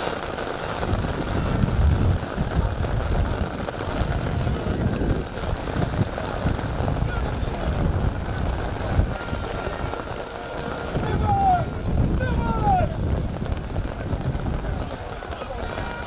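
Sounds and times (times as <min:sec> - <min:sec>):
steady outdoor hiss: 0:00.0 - 0:16.0
wind buffeting microphone: 0:00.0 - 0:16.0.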